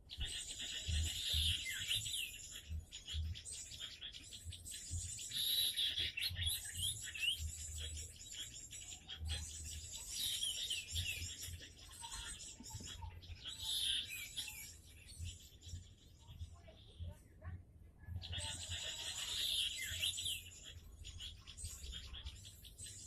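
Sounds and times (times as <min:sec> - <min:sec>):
songbirds chirping and twittering: 0:00.0 - 0:23.0.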